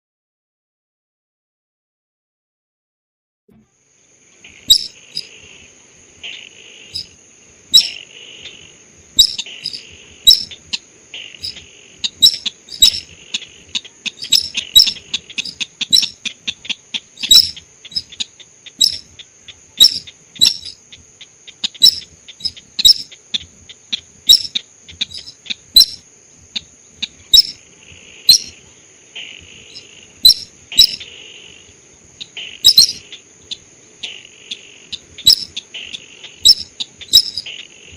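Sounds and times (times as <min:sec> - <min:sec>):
bird chip calls: 0:04.5 - 0:05.6, 0:06.2 - 0:37.9.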